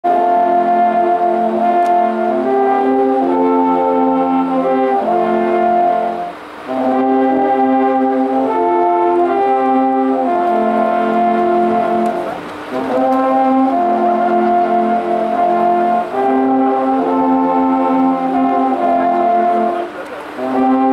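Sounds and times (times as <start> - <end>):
alphorns playing sustained chords: 0.0 - 20.9.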